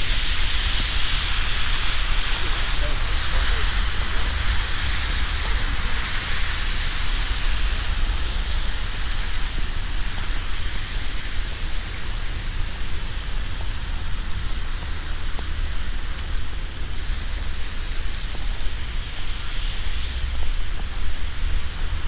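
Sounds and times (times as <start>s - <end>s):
sleet and wet snow falling: 0.0s - 22.0s
wind rumble on microphone: 0.0s - 22.0s.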